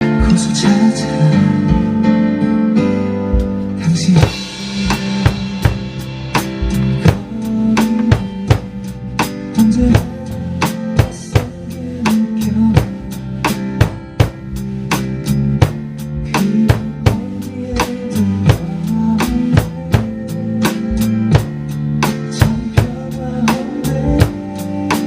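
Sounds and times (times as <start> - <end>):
worship song backing music: 0.0 - 25.0
drum kit kick and snare: 3.2 - 25.0.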